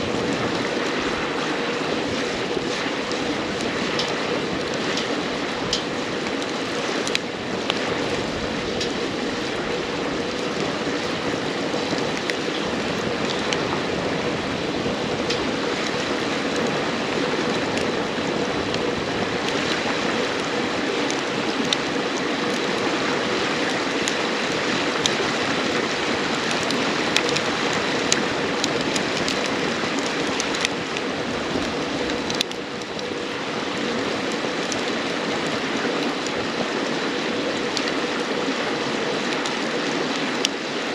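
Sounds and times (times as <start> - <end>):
campfire crackling and popping: 0.0 - 40.9
river flowing: 0.0 - 40.9.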